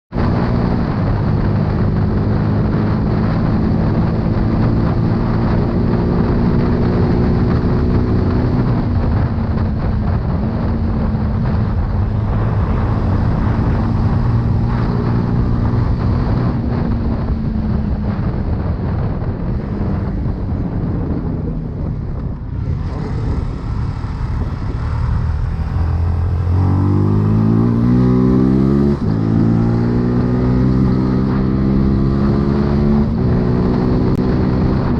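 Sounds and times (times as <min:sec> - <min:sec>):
motorcycle engine running: 0:00.1 - 0:34.9
wind noise on microphone: 0:00.1 - 0:34.9.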